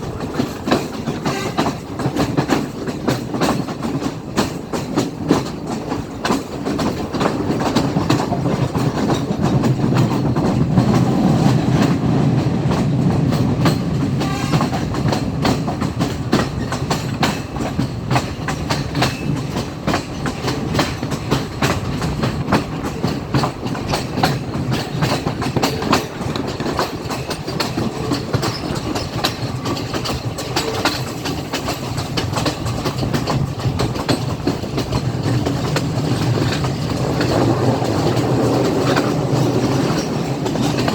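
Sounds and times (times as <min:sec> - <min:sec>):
train low rumble: 0:00.0 - 0:40.9
wheels clicking over rail joints: 0:00.0 - 0:40.9.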